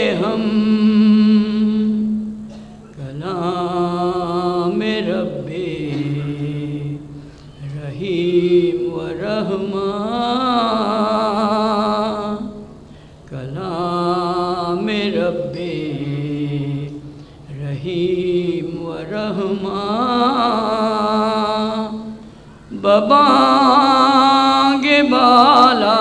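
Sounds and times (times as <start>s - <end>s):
man singing unaccompanied: 0.0s - 2.3s, 2.9s - 12.6s, 13.3s - 26.0s.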